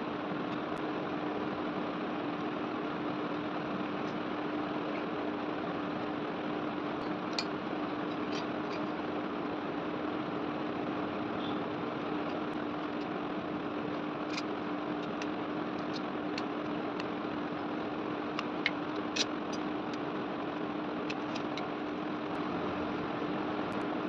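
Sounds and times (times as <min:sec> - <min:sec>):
electric fan running: 0:00.0 - 0:24.0.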